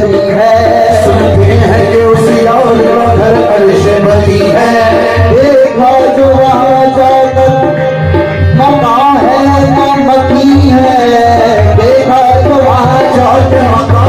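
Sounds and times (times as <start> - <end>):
person singing: 0.0 - 14.0
tabla beating: 0.0 - 14.0.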